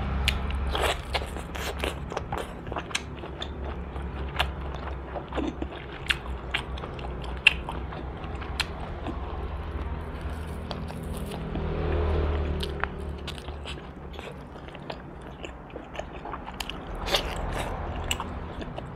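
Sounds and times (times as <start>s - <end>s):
biting and chewing crunches: 0.2s - 18.9s.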